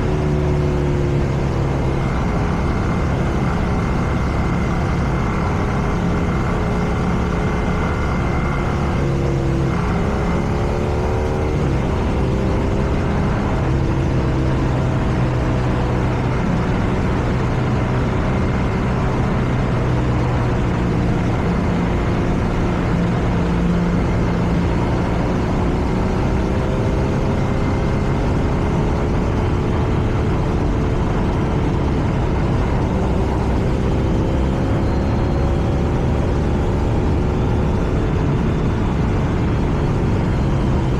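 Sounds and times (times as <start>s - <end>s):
motorcycle engine running: 0.0s - 40.9s
road noise: 0.0s - 40.9s.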